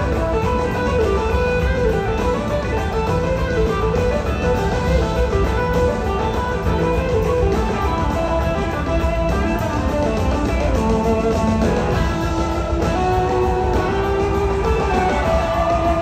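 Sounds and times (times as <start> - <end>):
drums: 0.0 - 16.0
electric guitars: 0.0 - 16.0
organ: 0.0 - 16.0.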